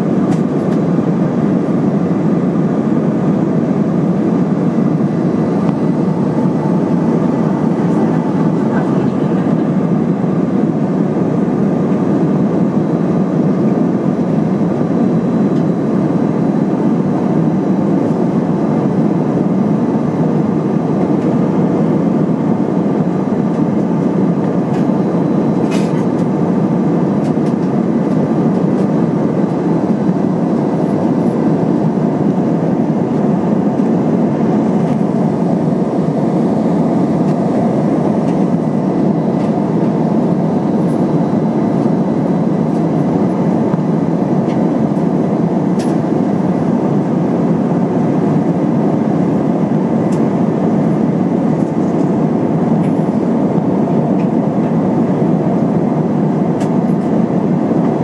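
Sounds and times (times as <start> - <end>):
aircraft cabin roar: 0.0 - 58.0.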